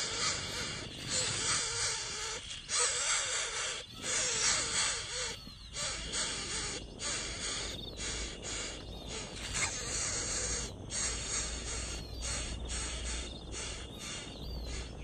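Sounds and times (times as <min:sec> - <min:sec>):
nestlings hissing begging calls: 0:00.0 - 0:15.0.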